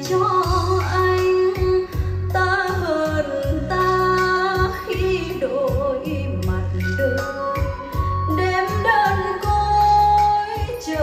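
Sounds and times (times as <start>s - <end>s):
song with vocals over beat: 0.0s - 11.0s.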